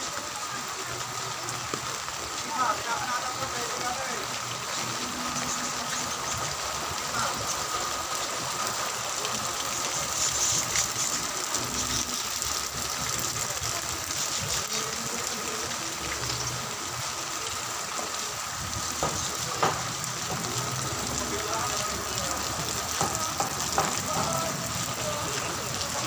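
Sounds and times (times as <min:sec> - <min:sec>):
heavy rain hissing: 0:00.0 - 0:26.0
raindrop taps: 0:01.4 - 0:16.6, 0:17.9 - 0:26.0.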